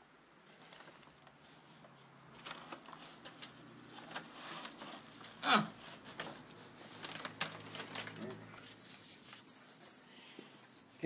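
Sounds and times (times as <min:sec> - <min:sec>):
plastic bag rustling: 0:00.4 - 0:10.1.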